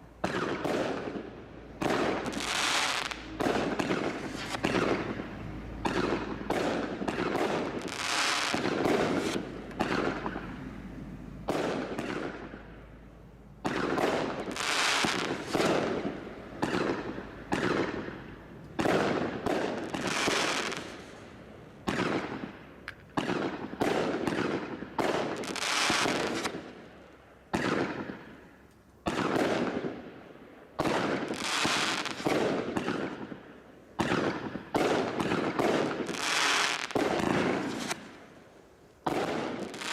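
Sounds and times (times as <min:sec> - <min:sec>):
firework barrage shots: 0:00.0 - 0:10.7, 0:11.4 - 0:12.8, 0:13.6 - 0:21.2, 0:21.8 - 0:26.9, 0:27.5 - 0:28.4, 0:29.0 - 0:30.2, 0:30.8 - 0:33.4, 0:34.0 - 0:38.2, 0:39.0 - 0:39.9
hissing crackling firework tails: 0:00.0 - 0:12.9, 0:13.6 - 0:26.8, 0:34.0 - 0:39.9.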